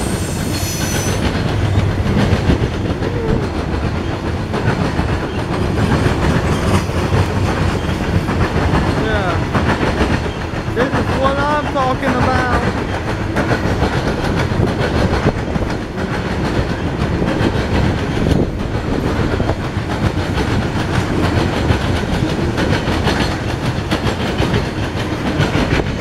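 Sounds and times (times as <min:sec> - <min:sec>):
freight car wheels rumbling on rail: 0:00.0 - 0:26.0
wheels clicking over rail joints: 0:00.0 - 0:26.0.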